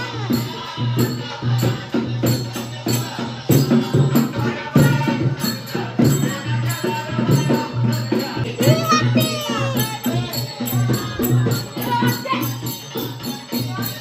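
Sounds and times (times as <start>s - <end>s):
hand cymbals jingling: 0.0s - 14.0s
hand-played steel barrel drum: 0.0s - 14.0s
voices singing: 0.0s - 14.0s.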